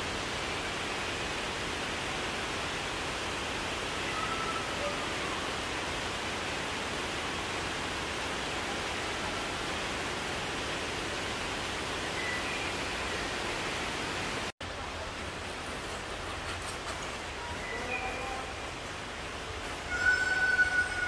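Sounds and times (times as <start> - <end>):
steady rushing hiss: 0.0 - 21.0.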